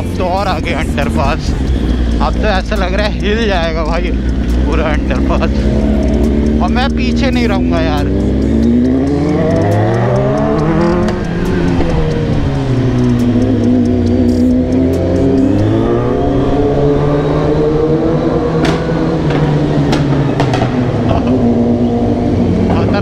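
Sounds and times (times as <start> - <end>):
motorcycle engines revving hard: 0.0 - 23.0.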